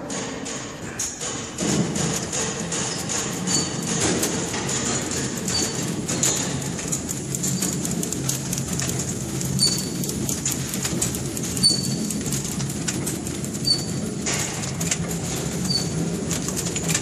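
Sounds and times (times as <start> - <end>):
machine motor hum: 1.4 - 17.0
rapid clattering ticks: 2.0 - 17.0.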